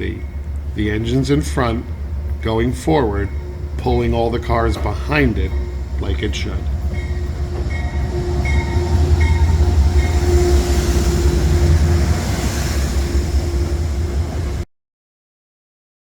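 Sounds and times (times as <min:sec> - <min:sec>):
train rumbling: 0:00.0 - 0:14.7.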